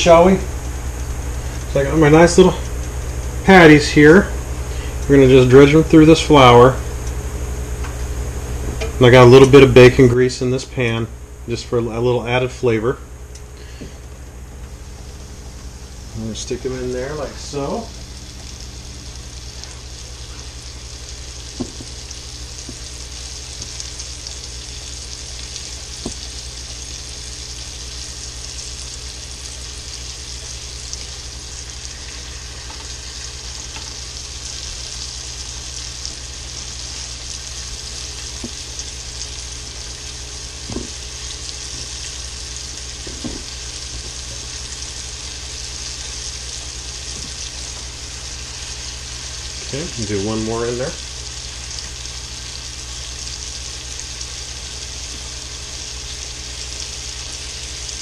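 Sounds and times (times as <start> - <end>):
patties sizzling in a skillet: 0.0 - 58.0.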